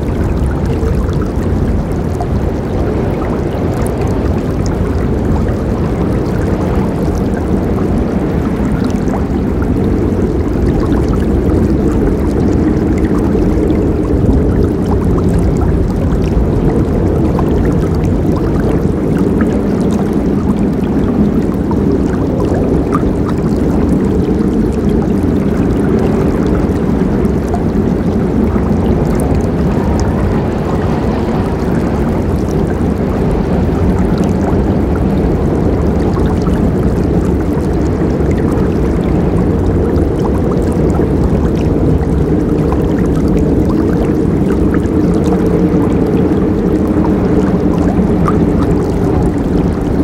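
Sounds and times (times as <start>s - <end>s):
faint water splashes: 0.0s - 50.0s
river rushing: 0.0s - 50.0s.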